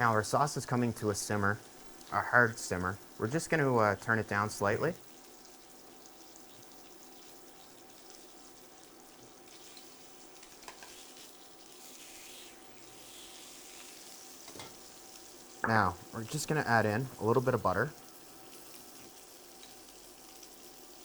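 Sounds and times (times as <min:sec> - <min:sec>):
fish sizzling in oil: 0:00.0 - 0:21.0.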